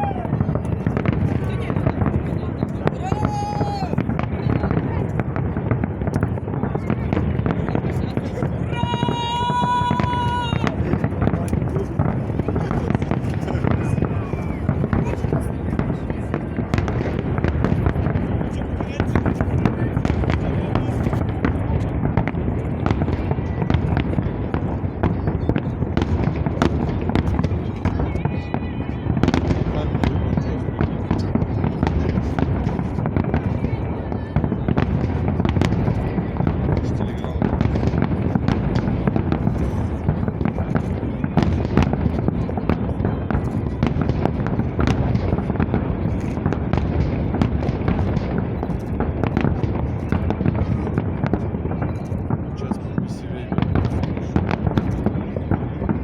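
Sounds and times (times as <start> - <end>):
distant fireworks rumble: 0.0 - 56.0
fireworks bangs: 0.0 - 56.0.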